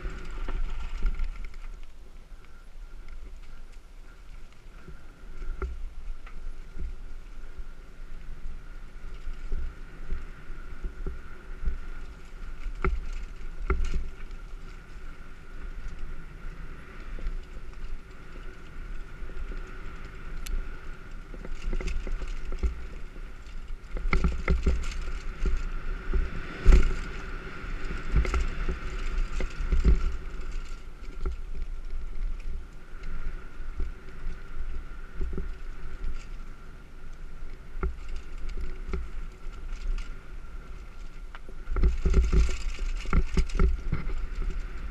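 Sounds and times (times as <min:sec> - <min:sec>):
bike rattling over bumps: 0:00.0 - 0:44.9
tyre and trail rumble: 0:00.0 - 0:44.9.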